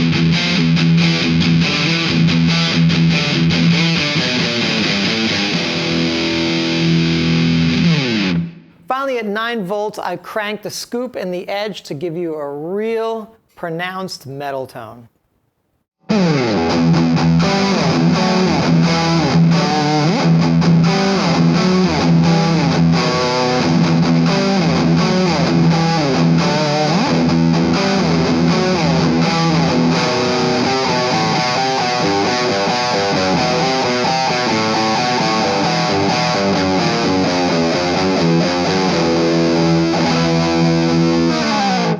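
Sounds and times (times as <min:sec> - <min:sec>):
distorted electric guitar riff: 0:00.0 - 0:08.8, 0:16.0 - 0:41.9.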